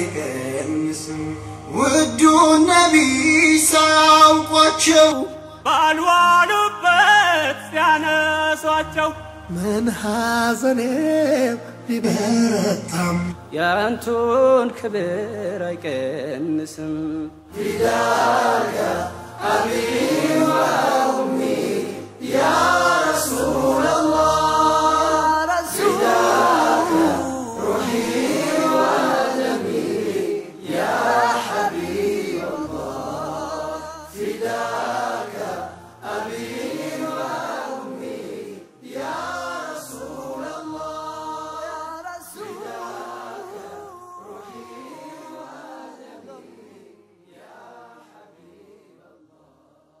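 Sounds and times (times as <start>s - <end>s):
male vocal group singing: 0.0s - 49.2s.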